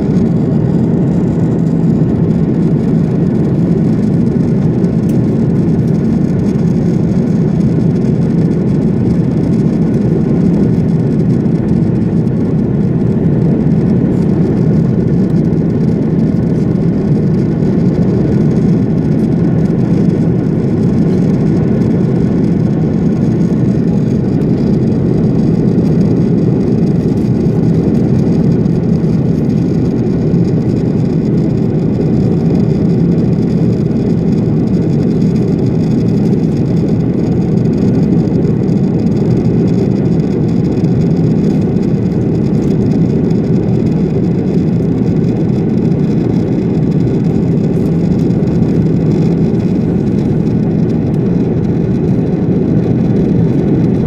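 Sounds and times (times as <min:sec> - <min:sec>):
aircraft cabin engine rush: 0:00.0 - 0:54.0.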